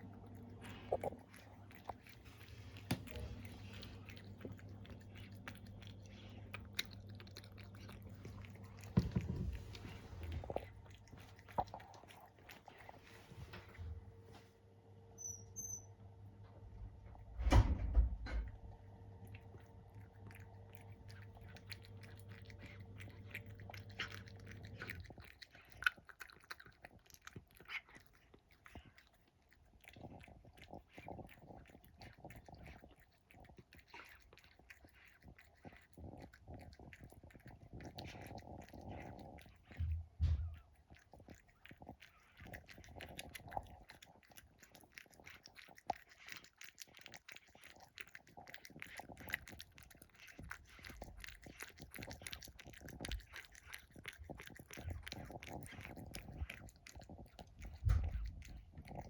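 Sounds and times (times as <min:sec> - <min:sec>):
cat chewing and crunching: 0:00.0 - 0:59.0
cat piggy eating sounds: 0:00.0 - 0:59.0.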